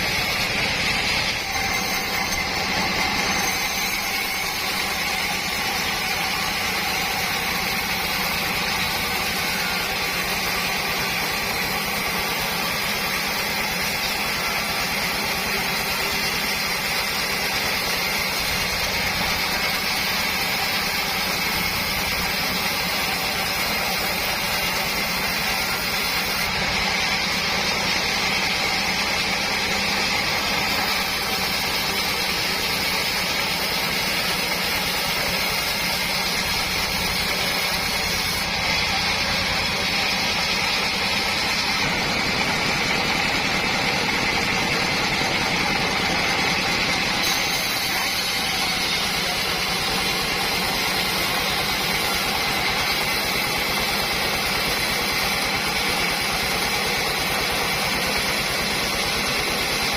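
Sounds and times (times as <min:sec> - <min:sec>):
sawmill mechanical drone: 0:00.0 - 0:59.9.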